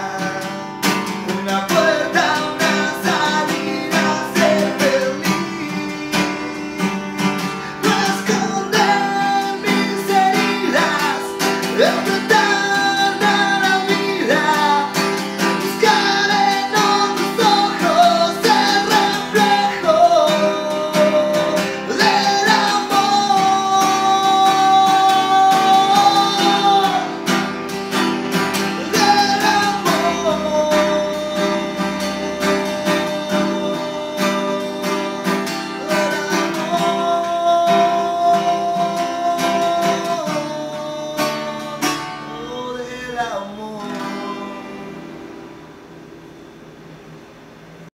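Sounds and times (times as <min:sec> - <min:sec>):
man singing: 0:00.0 - 0:45.2
strummed acoustic guitar: 0:00.0 - 0:47.9.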